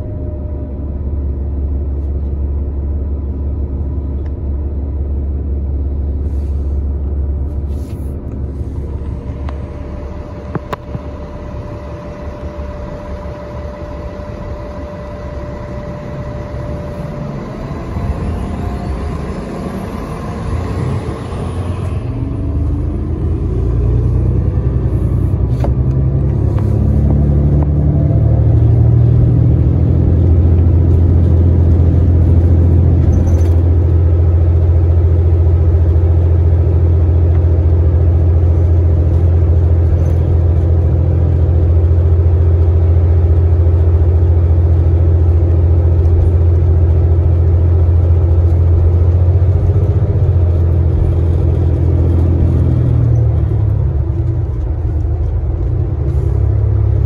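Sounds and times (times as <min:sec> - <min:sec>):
bus engine whine and drone: 0:00.0 - 0:57.0.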